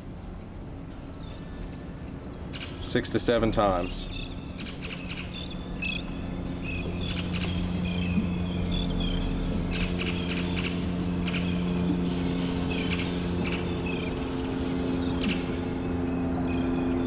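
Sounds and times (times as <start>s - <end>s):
birds chirping: 0.0s - 17.0s
engine humming: 0.0s - 17.0s.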